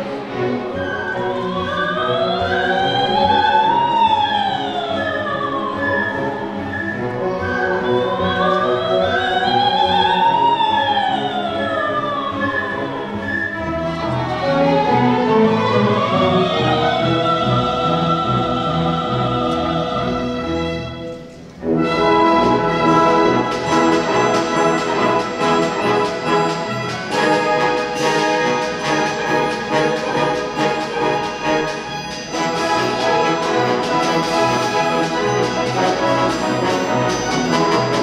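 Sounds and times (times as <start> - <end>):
orchestral music with brass: 0.0 - 38.0.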